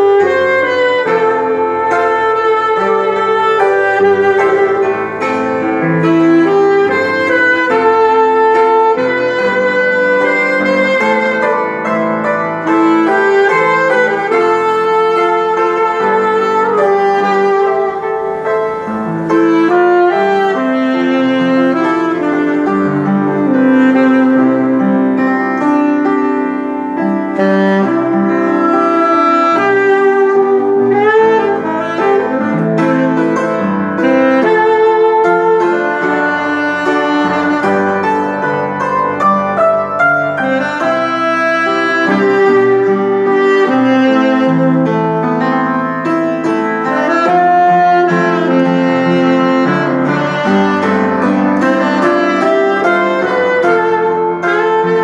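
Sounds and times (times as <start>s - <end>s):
saxophone slow melody: 0.0s - 55.0s
upright piano chords: 0.0s - 55.0s.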